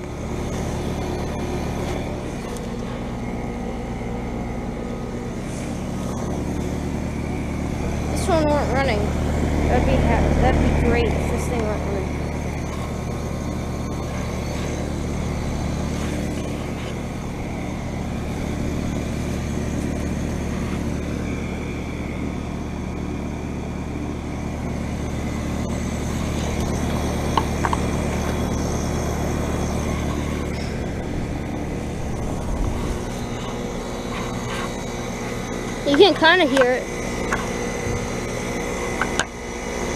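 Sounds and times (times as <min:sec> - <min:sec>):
heat pump humming and whirring: 0:00.0 - 0:39.9.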